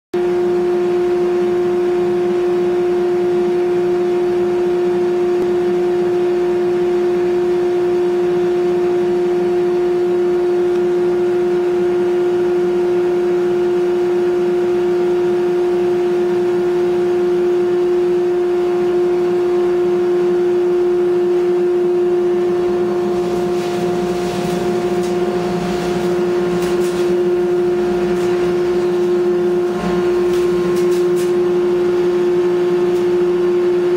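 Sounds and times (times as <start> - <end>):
dust collector motor humming: 0.2 - 33.9.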